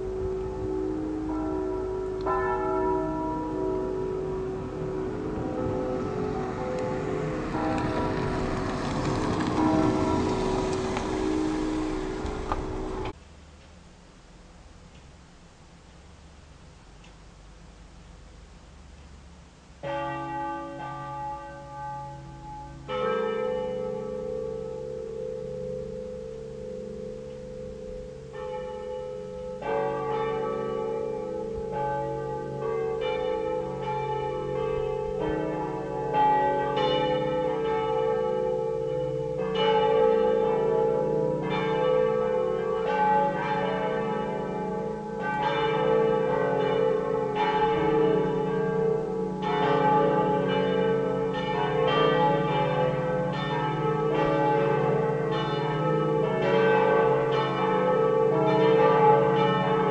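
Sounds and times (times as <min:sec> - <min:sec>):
church bells ringing: 0:00.0 - 0:13.2, 0:19.8 - 0:59.9.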